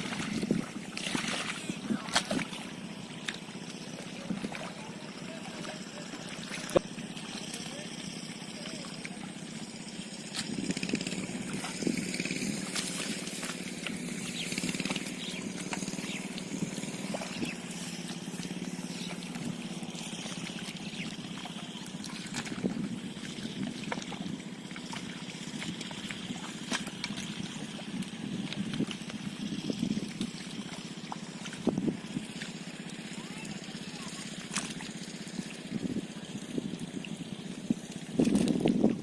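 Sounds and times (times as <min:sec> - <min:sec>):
muddy water splashing: 0:00.0 - 0:39.0
steady hum: 0:00.0 - 0:39.0.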